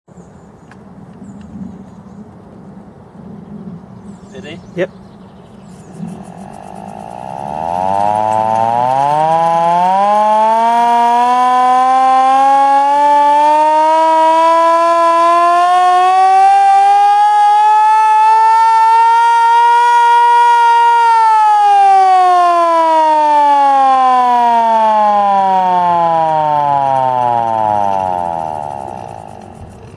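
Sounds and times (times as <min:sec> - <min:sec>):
air raid siren wailing: 0:05.9 - 0:29.9.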